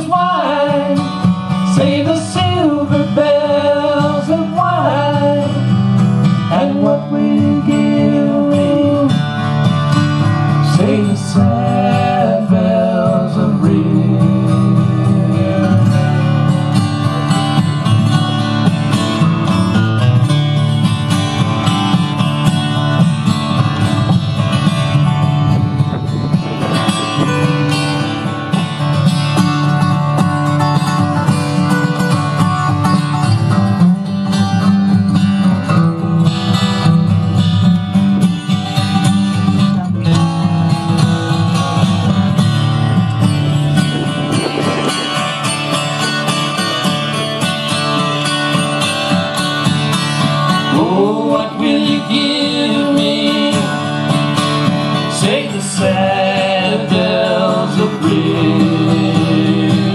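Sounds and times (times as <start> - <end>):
acoustic guitars strumming and picking: 0.0 - 59.9.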